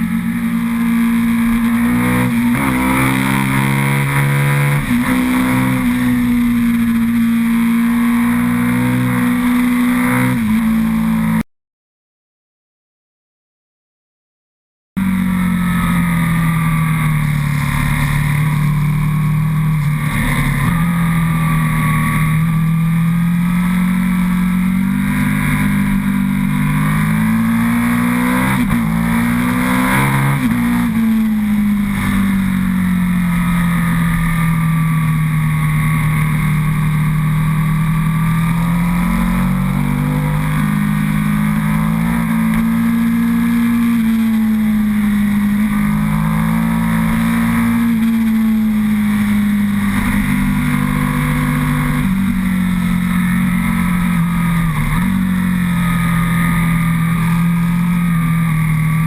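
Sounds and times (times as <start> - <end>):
motorcycle engine running: 0.0 - 11.4, 15.0 - 59.0.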